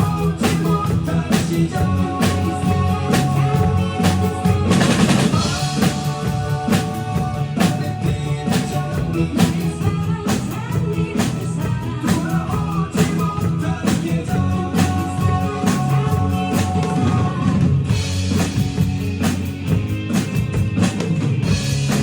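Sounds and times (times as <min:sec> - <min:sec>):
person singing: 0:00.0 - 0:17.7
drums beating: 0:00.0 - 0:22.0.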